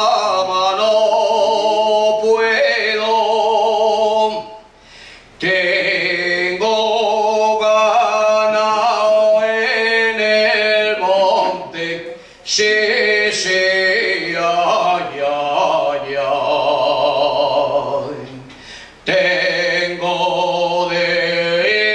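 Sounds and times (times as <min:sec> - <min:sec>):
man singing unaccompanied: 0:00.0 - 0:04.7, 0:05.3 - 0:21.9.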